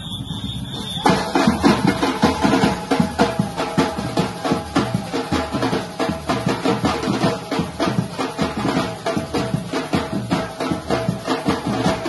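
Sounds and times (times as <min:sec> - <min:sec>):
drum group playing: 0:00.0 - 0:12.0.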